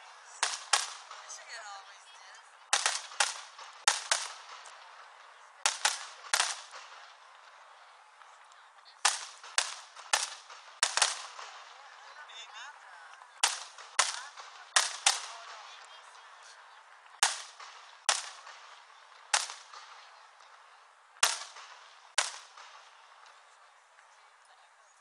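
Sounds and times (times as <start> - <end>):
fireworks bangs echoing: 0.0 - 1.9, 2.6 - 8.4, 9.0 - 23.7.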